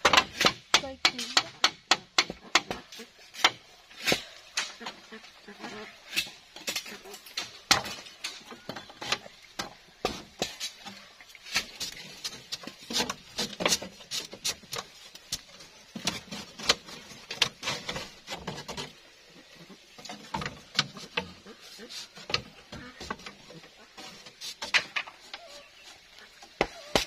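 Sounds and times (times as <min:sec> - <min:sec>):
bamboo strips clicking and clattering: 0:00.0 - 0:27.0.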